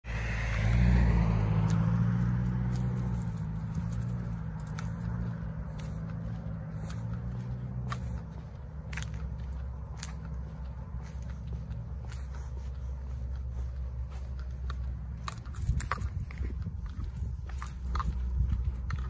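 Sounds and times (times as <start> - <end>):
car passing: 0.0 - 19.0
footsteps on pavement: 0.4 - 19.0.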